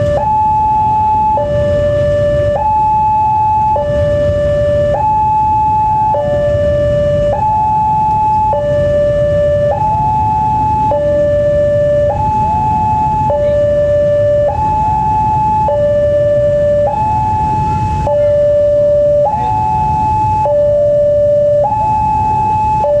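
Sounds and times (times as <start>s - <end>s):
two-tone level crossing alarm: 0.0s - 23.0s.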